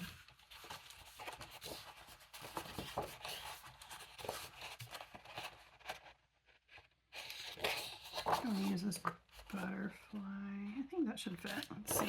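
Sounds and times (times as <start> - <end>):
paper rustling and scraping: 0.0 - 10.0, 11.4 - 12.0.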